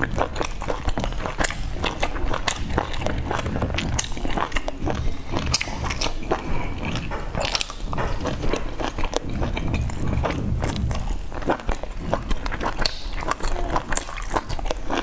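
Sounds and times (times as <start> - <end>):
sticky mouth clicks: 0.0 - 15.0
wet chewing: 0.0 - 15.0.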